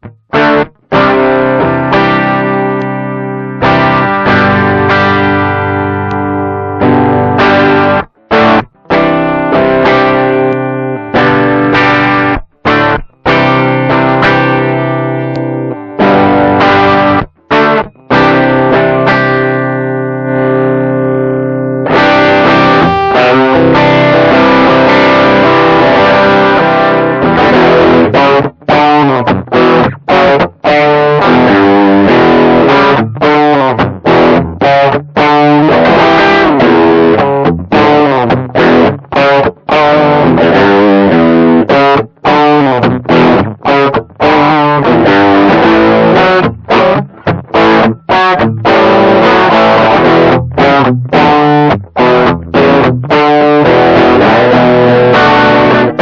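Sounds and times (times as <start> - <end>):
overdriven electric guitar chords: 0.0 - 56.0.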